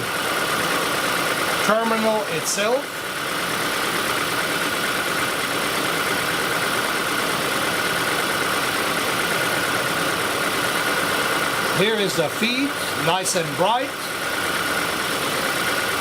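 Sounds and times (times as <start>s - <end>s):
car engine idling whir: 0.0s - 16.0s.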